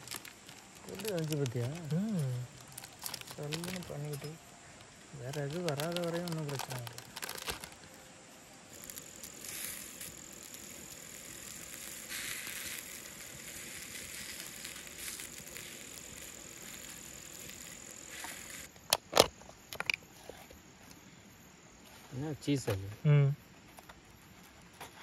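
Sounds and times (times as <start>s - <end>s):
insects trilling: 0.0s - 25.0s
soft uneven hiss: 0.0s - 25.0s.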